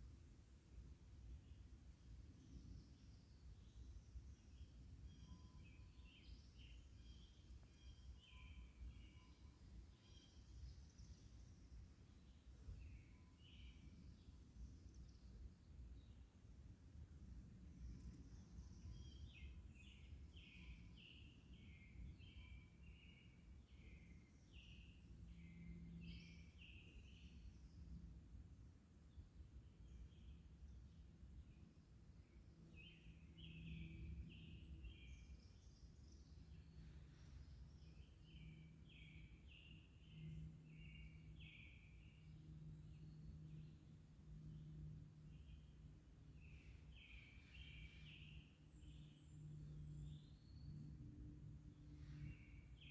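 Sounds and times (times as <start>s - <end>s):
faint bird chirping: 1.3s - 16.4s, 17.0s - 28.0s, 29.1s - 52.9s.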